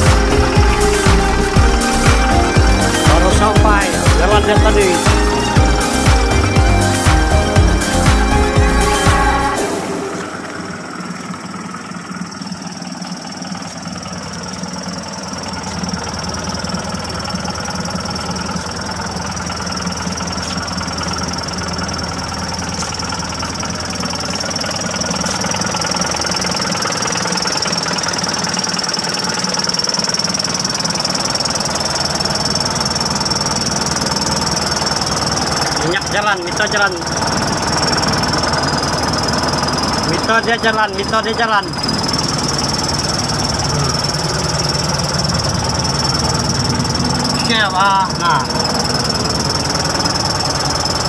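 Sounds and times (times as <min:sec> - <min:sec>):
engine idling: 0:00.0 - 0:51.0
high-pitched whine: 0:00.0 - 0:51.0.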